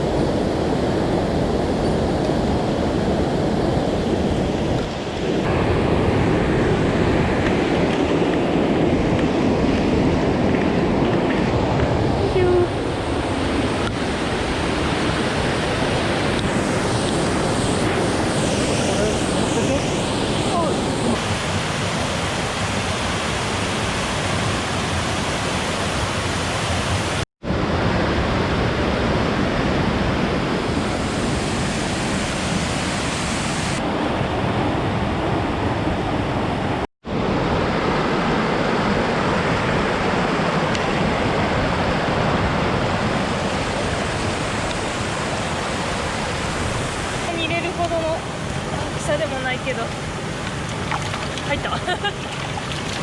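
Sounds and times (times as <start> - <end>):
stream and waterfall rushing: 0.0 - 53.0.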